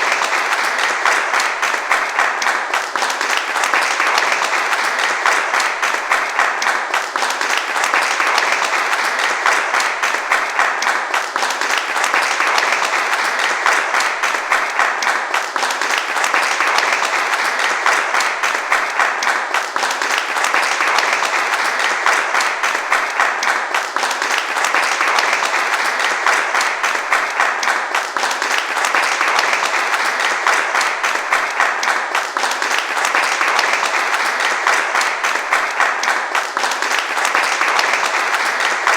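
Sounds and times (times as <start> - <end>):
crowd applauding: 0.0 - 38.9.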